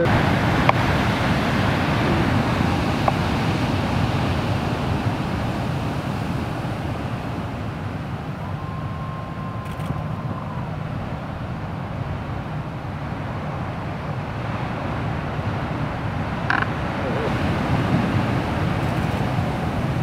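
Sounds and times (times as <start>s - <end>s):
distant ocean surf breaking: 0.0s - 20.0s.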